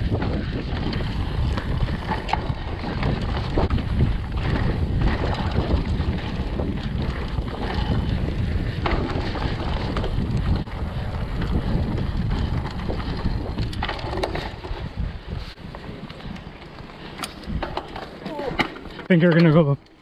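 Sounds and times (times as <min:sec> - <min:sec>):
wind buffeting microphone: 0:00.0 - 0:19.1
bike knocks and rattles: 0:00.0 - 0:19.8
tyres rumbling on dirt: 0:00.0 - 0:19.8.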